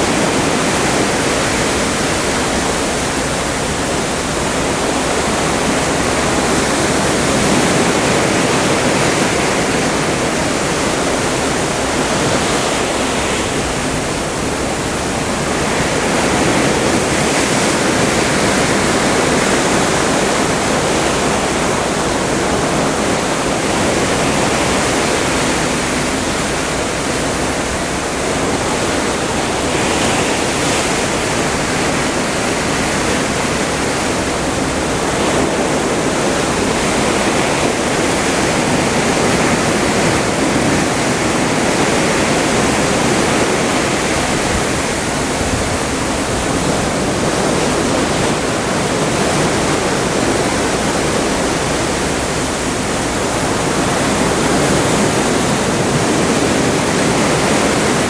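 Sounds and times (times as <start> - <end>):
sea water rushing alongside ship: 0.0 - 58.0.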